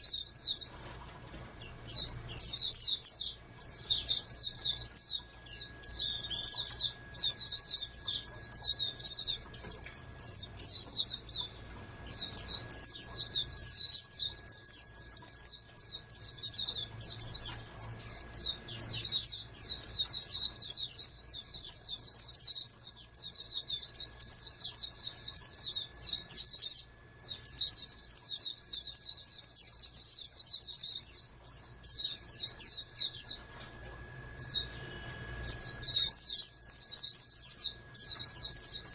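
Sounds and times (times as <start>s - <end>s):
songbird twittering song: 0.0s - 38.9s.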